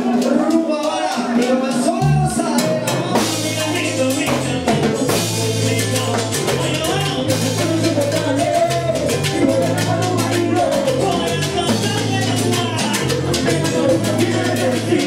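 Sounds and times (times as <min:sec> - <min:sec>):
bass line: 0:00.0 - 0:15.0
drum kit and percussion: 0:00.0 - 0:15.0.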